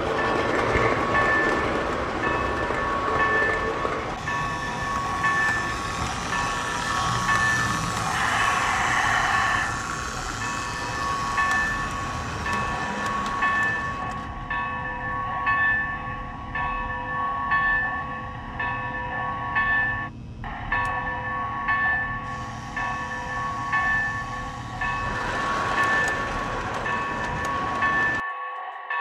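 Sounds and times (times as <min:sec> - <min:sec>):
toy train running on track: 0:00.0 - 0:15.2, 0:20.5 - 0:29.0.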